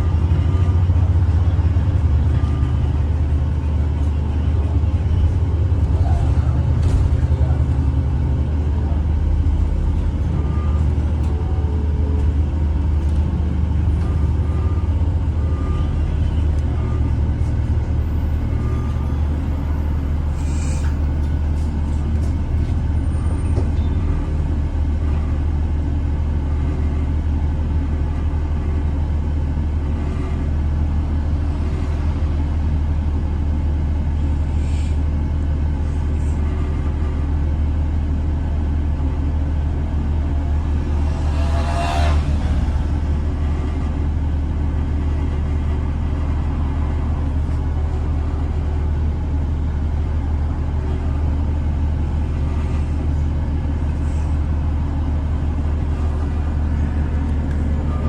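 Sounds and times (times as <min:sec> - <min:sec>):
bus engine rumble: 0:00.0 - 0:58.0.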